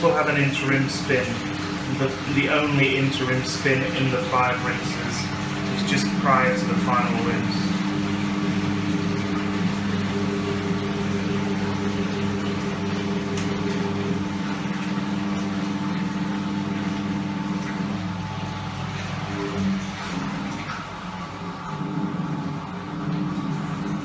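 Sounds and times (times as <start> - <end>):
washing machine motor hum: 0.0 - 24.0
water pumping out: 0.0 - 24.0.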